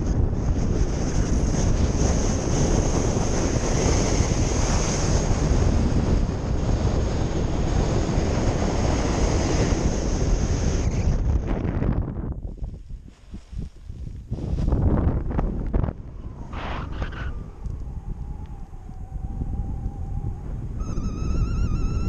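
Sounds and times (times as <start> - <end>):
wind roaring over microphone: 0.0 - 22.0.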